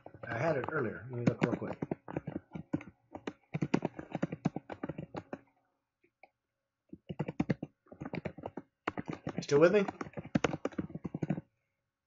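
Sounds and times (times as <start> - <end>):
typing on a computer keyboard: 0.0 - 5.5, 6.9 - 11.5.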